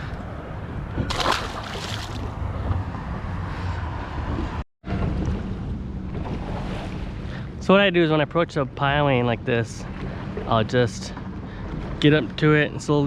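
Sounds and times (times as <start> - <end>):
water moving around boat: 0.0 - 13.0.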